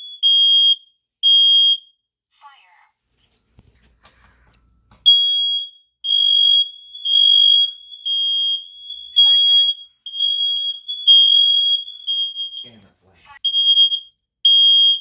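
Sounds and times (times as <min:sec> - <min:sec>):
smoke alarm beeping: 0:00.0 - 0:02.0, 0:04.6 - 0:15.0.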